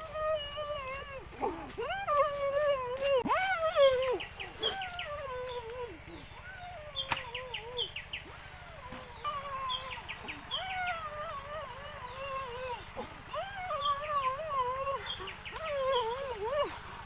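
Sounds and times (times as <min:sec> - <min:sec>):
small animal whining: 0:00.0 - 0:17.0.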